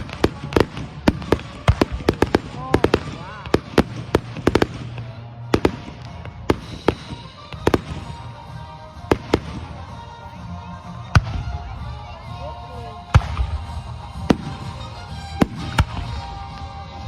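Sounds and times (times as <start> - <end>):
fireworks bangs: 0.0 - 10.1, 13.1 - 17.0
faint music with held notes: 0.0 - 17.0.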